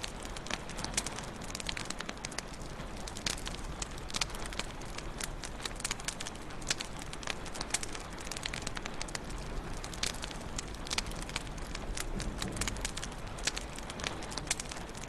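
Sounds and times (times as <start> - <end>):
wood fire popping and snapping: 0.0 - 15.0.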